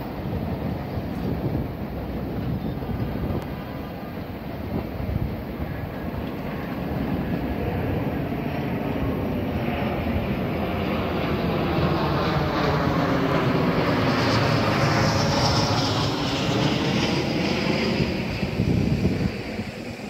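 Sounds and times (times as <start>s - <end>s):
electric train rumble: 0.0s - 20.0s.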